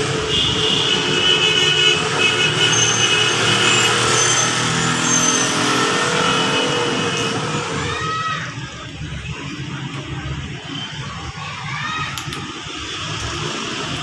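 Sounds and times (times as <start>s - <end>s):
traffic engines running: 0.0s - 14.0s.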